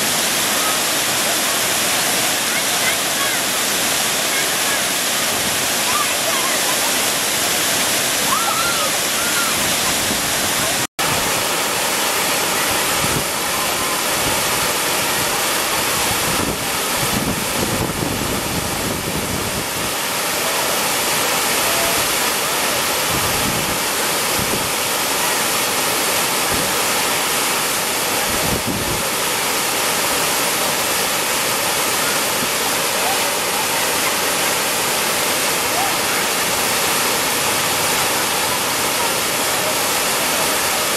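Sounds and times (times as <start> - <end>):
water rushing over cascade: 0.0 - 40.9.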